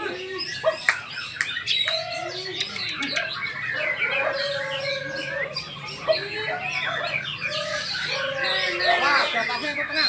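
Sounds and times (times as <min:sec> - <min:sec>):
birds singing whistles and trills: 0:00.0 - 0:10.0.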